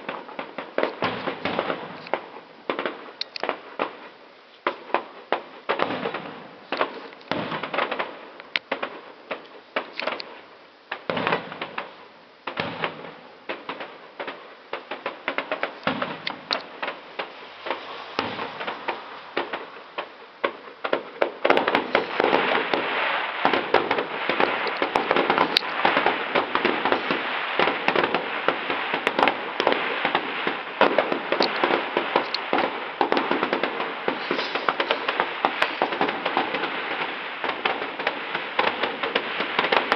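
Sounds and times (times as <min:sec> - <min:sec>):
fireworks bangs: 0:00.0 - 0:39.9
fireworks crackling barrage: 0:00.0 - 0:39.9.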